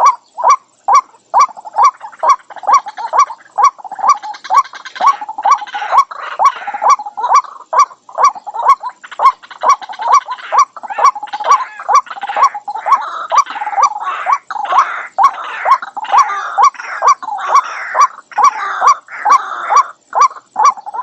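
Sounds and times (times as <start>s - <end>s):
waterhen croaking calls: 0.0s - 21.0s.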